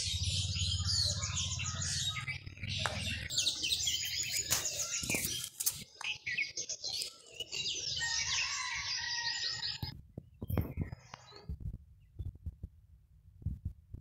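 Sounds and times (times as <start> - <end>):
songbirds chirping: 0.0 - 12.6.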